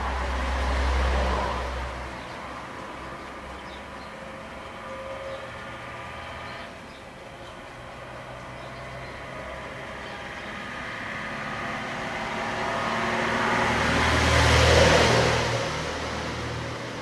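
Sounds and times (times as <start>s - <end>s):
motor vehicle driving past: 0.0s - 17.0s.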